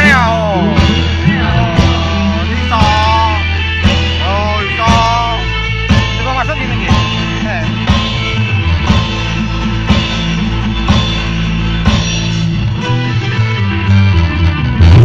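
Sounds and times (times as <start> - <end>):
loud music with booming bass: 0.0 - 15.0.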